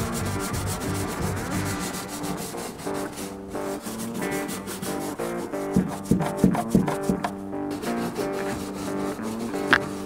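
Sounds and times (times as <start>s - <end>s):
background music: 0.0s - 10.0s
brush scrubbing metal panel: 0.0s - 10.0s.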